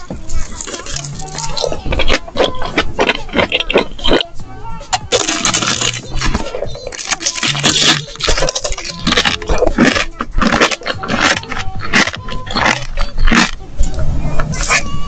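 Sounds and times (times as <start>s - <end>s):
crunching and chewing: 0.0s - 13.6s.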